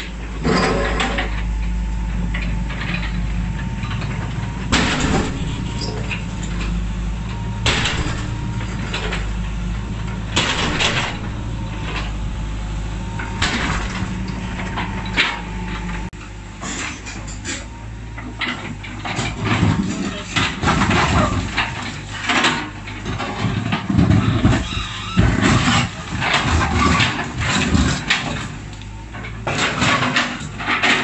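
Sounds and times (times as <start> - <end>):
excavator engine running: 0.0 - 31.0.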